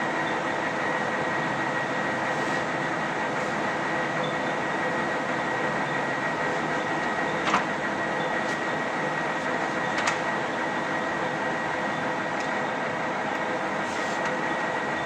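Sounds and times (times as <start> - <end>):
lathe running with high whine: 0.0 - 15.0.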